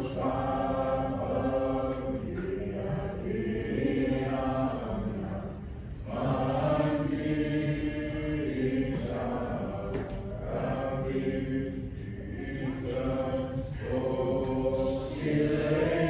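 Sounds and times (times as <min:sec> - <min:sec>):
voices singing a slow hymn: 0:00.0 - 0:16.0.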